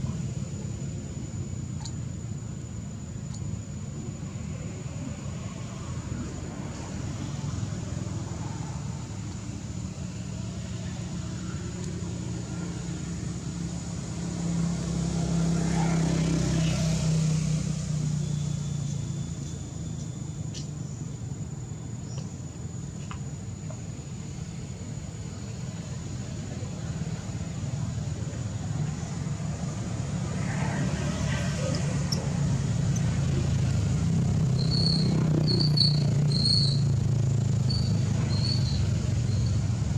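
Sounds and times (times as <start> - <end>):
passing vehicle engine rumble: 3.9 - 22.0, 23.5 - 39.9.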